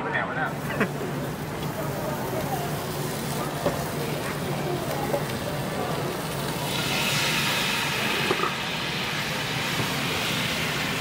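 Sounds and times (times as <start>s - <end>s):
chicken sizzling in a pan: 0.6s - 11.0s.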